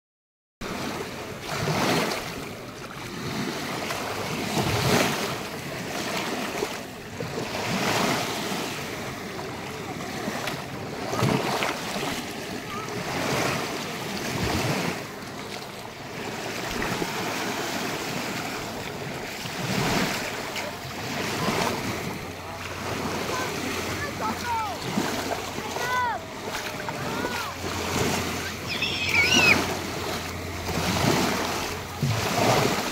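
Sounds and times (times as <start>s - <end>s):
small waves lapping on shore: 0.6s - 32.9s.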